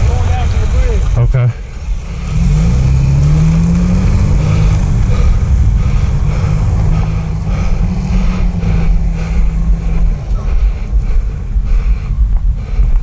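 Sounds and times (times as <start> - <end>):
heavy low rumble: 0.0 - 13.0
vehicle engine accelerating: 0.0 - 13.0.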